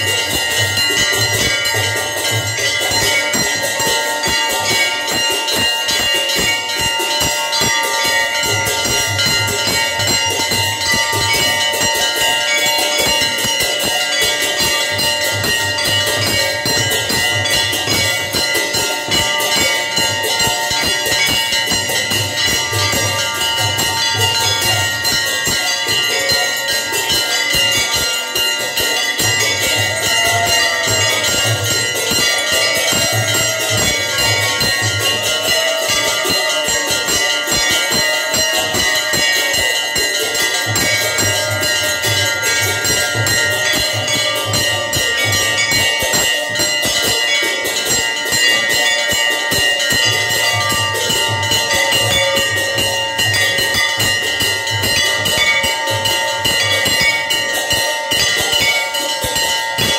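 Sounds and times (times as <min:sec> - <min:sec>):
bells ringing rapidly: 0:00.0 - 0:59.9.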